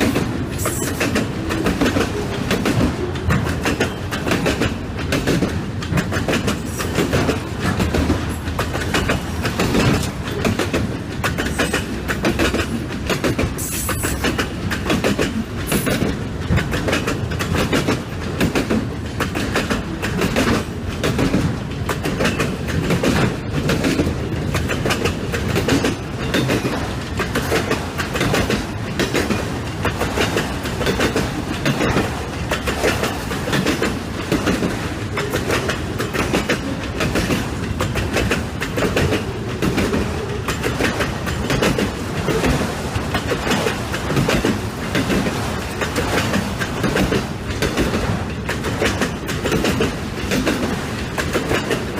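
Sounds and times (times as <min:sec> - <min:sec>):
train wheels clattering: 0:00.0 - 0:51.9.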